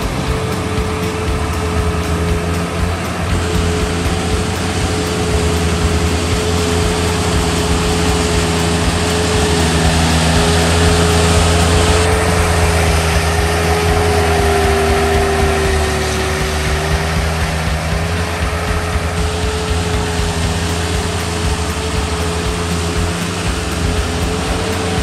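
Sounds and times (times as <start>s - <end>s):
high-pitched whine: 0.0s - 25.0s
power trowel engine running: 0.0s - 25.0s.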